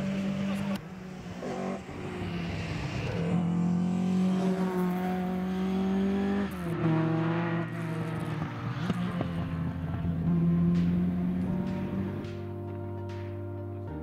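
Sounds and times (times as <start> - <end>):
car engine pulling away: 0.0 - 12.9.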